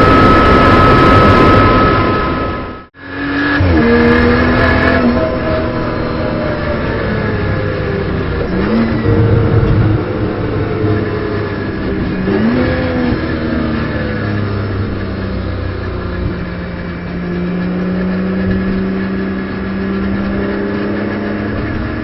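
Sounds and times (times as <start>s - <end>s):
racing car engine: 0.0s - 22.0s.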